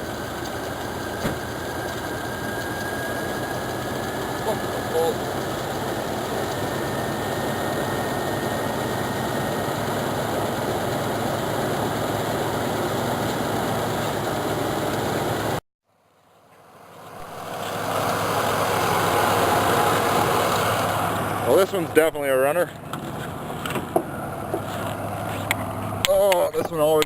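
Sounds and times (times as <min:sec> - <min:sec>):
car engine idling: 0:00.0 - 0:15.6, 0:16.5 - 0:27.0.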